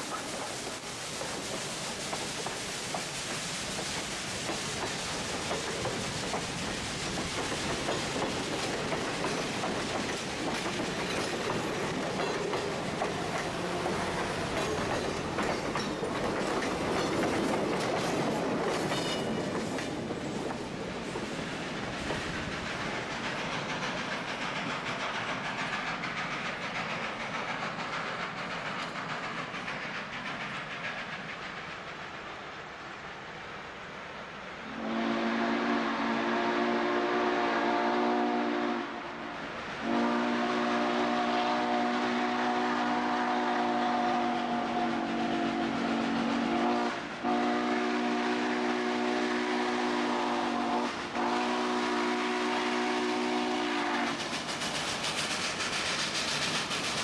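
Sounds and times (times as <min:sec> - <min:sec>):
train wheels clicking over rail joints: 0:00.0 - 0:33.6, 0:42.6 - 0:57.0.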